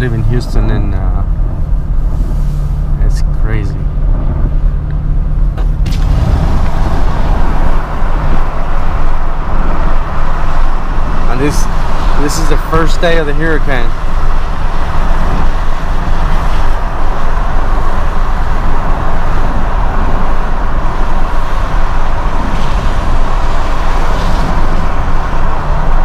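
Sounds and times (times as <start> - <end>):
car road noise: 0.0 - 26.0.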